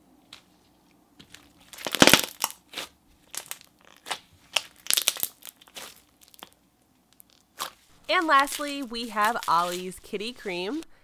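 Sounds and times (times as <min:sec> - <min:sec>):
foam ball slime crackling: 0:01.2 - 0:10.8.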